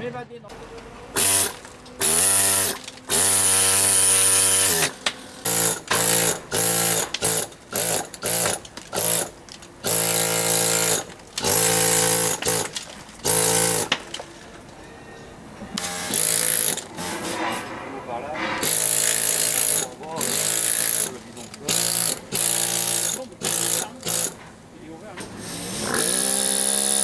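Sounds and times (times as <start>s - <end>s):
pneumatic hammer chiselling stone: 1.1s - 14.2s, 15.8s - 17.7s, 18.4s - 24.5s, 25.2s - 27.0s.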